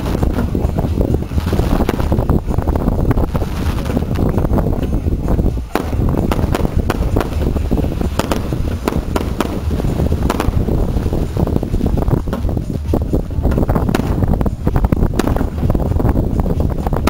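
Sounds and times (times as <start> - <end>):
fireworks popping and banging: 0.0 - 17.0
wind rumble on microphone: 0.0 - 17.0.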